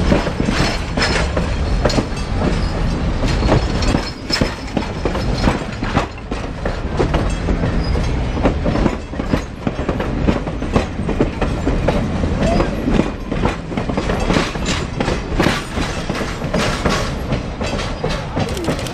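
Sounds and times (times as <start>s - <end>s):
train low rumble: 0.0s - 18.9s
train wheels clacking on rails: 0.0s - 18.9s.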